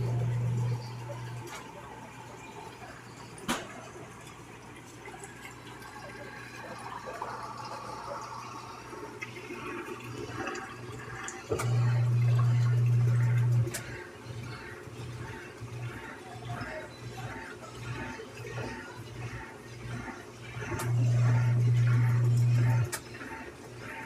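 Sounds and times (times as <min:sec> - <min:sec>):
washing machine low hum: 0:00.0 - 0:24.0.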